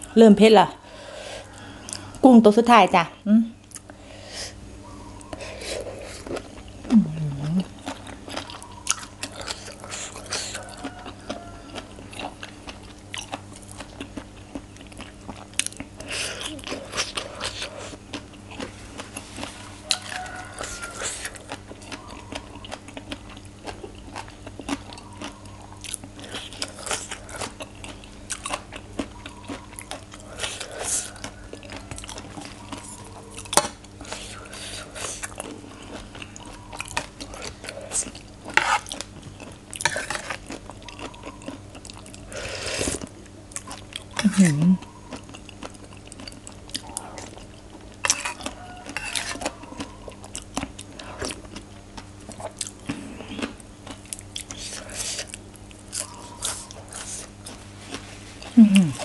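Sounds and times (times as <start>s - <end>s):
chewing crunchy salad: 3.6s - 4.0s, 4.8s - 59.0s.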